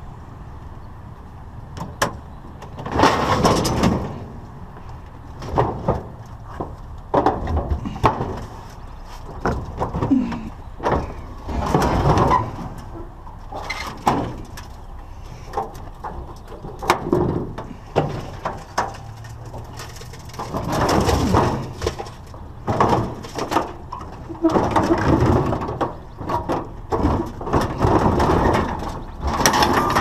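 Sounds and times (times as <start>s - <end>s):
scraping or rustling: 2.7s - 30.0s.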